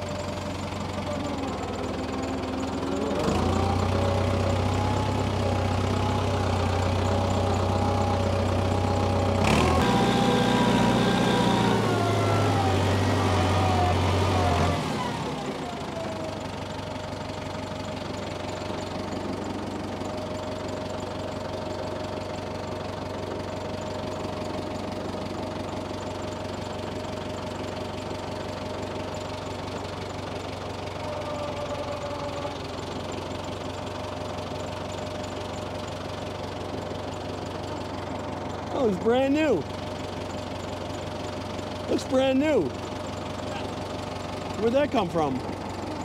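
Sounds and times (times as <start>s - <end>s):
tractor engine idling: 0.0s - 46.0s.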